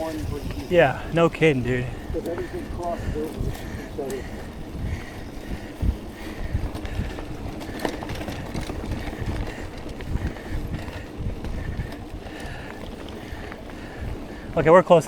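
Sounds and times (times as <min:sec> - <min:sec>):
wind on microphone: 0:00.0 - 0:14.7
bike knocking and rattling: 0:00.0 - 0:15.0
bike tyres on dirt: 0:00.0 - 0:15.0.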